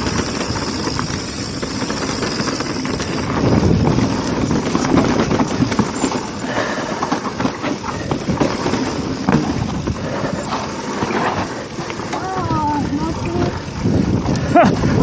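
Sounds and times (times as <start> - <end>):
bike rattling over bumps: 0.0 - 15.0.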